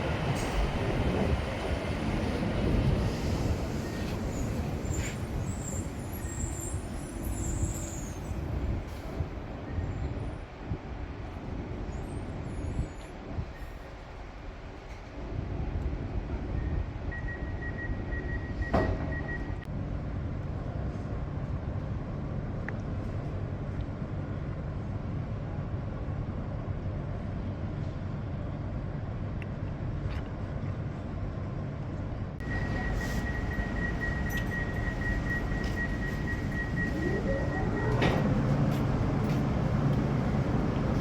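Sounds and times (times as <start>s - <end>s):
train rumbling: 0.0s - 29.9s, 30.5s - 41.0s.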